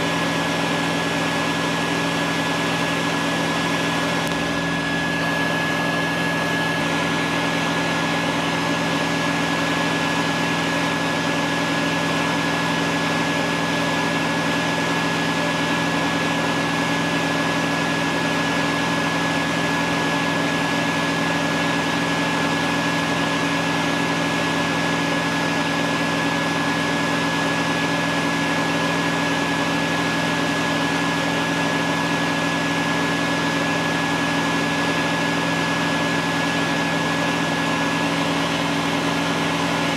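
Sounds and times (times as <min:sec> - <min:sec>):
portable generator running: 0:00.0 - 0:39.9
shop vacuum motor droning: 0:00.0 - 0:39.9.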